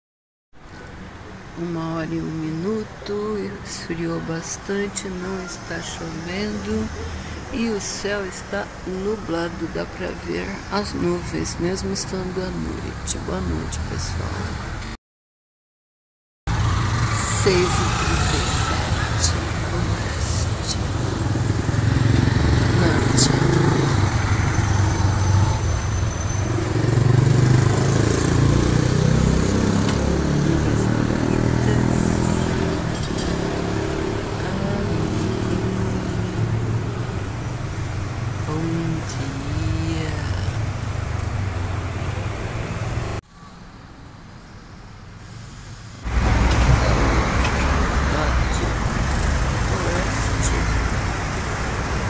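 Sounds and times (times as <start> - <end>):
road traffic engines: 0.6 - 15.0, 16.5 - 52.0.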